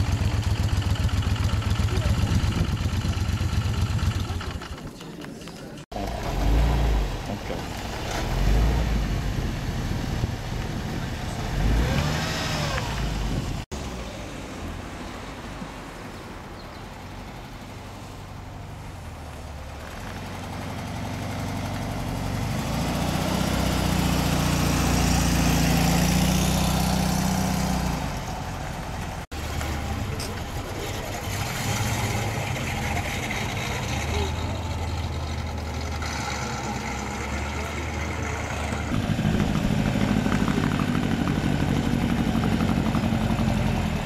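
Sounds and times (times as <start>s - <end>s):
car engine pulling away: 5.9s - 44.0s.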